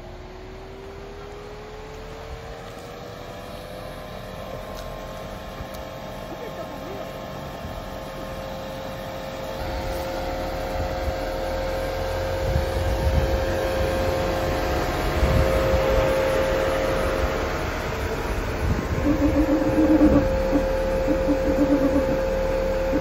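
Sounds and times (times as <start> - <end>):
engine whining at low speed: 0.0 - 23.0.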